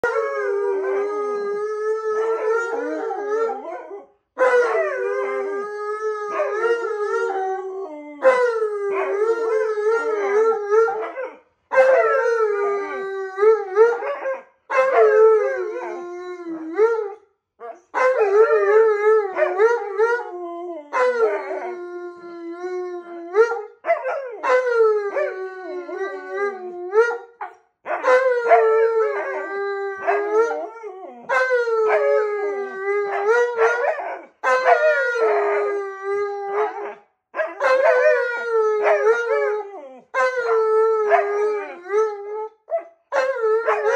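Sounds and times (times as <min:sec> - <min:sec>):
dogs howling: 0:00.0 - 0:27.2, 0:27.9 - 0:43.9.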